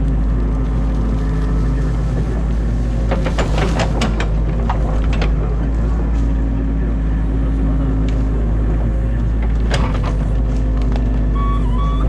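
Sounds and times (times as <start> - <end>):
branches cracking and snapping: 0.0 - 11.3
excavator diesel engine running: 0.0 - 12.0.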